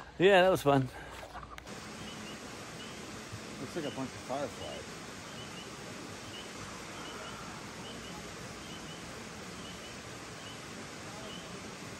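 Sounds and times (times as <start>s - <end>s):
steady night hiss: 0.0s - 11.9s.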